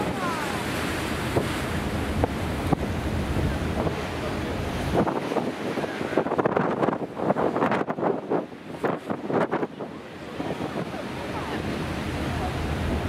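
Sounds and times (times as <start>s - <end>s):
sea wash: 0.0s - 13.0s
wind buffeting microphone: 0.0s - 13.0s.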